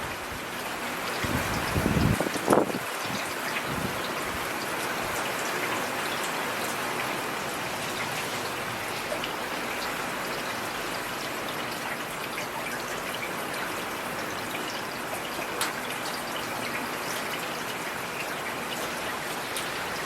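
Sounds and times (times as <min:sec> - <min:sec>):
heavy rain falling: 0:00.0 - 0:20.0
raindrops striking close by: 0:00.0 - 0:20.0.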